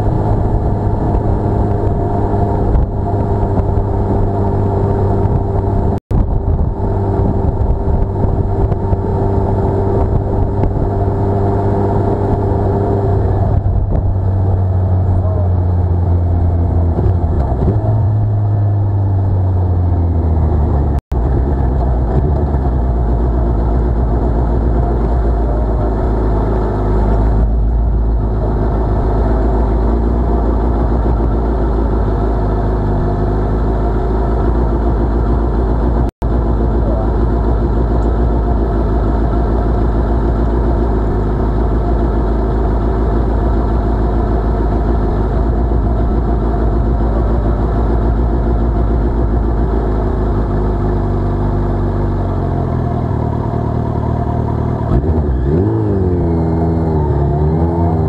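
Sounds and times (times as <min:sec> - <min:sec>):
motorcycle engine winding down and idling: 0:00.0 - 0:58.0.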